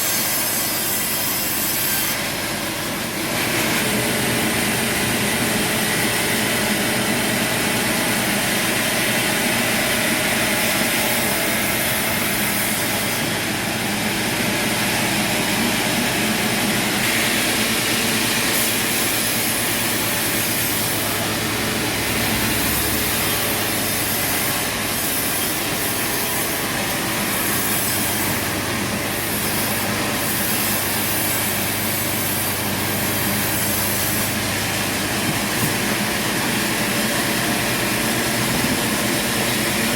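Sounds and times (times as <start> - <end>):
saw cutting wood: 0.0 - 39.9
engine hum: 2.5 - 39.9.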